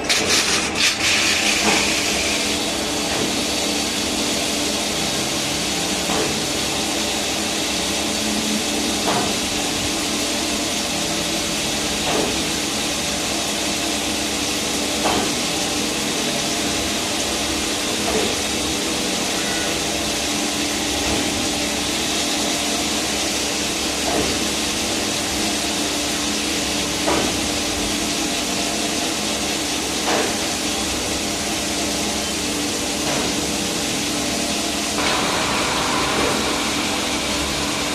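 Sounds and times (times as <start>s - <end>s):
lathe machining noise: 0.0s - 37.9s.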